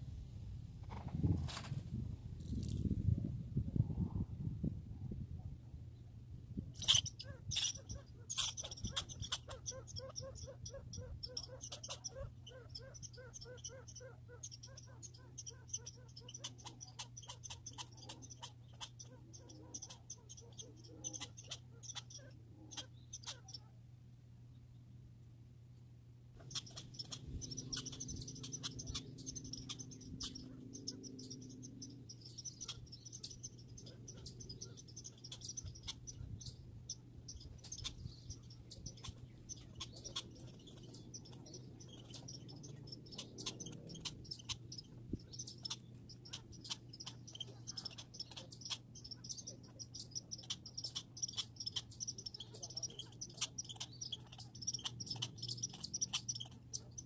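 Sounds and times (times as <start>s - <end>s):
steady low hum: 0.0s - 57.0s
squirrels chattering: 6.6s - 23.8s, 26.4s - 57.0s.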